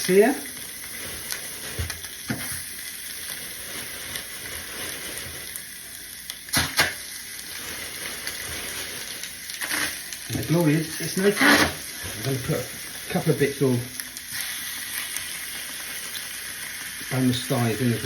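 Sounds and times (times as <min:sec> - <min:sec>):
chicken sizzling in a skillet: 0:00.0 - 0:18.0.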